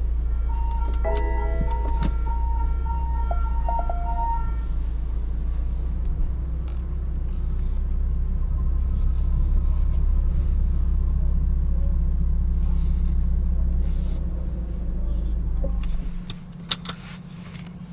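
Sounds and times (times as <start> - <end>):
car interior rumble: 0.0 - 17.9.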